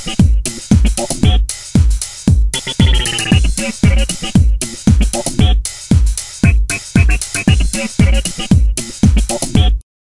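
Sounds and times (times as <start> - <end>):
electronic dance music: 0.0 - 9.8
kick drum: 0.0 - 9.8.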